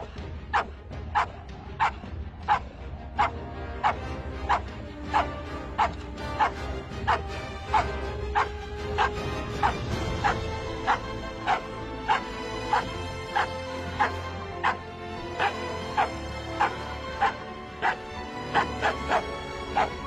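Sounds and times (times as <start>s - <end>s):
music playing: 0.0s - 20.0s
dog barking: 0.5s - 20.0s.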